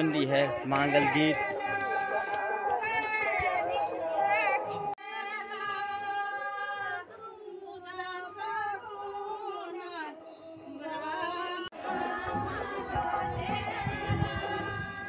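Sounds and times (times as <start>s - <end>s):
mix of voices: 0.0s - 15.0s
women singing folk song: 0.5s - 15.0s.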